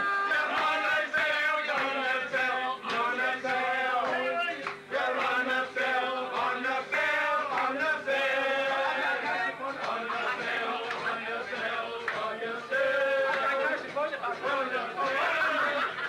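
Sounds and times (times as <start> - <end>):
men singing together: 0.0 - 16.0.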